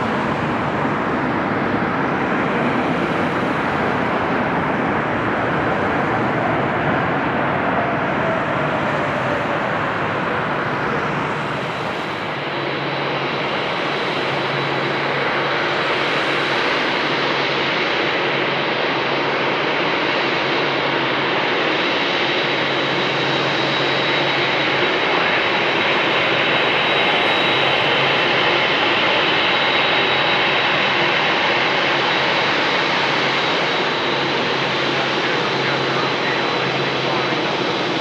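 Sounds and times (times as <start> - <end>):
high engine whine: 0.0 - 38.0
jet airliner engines rushing: 0.0 - 38.0.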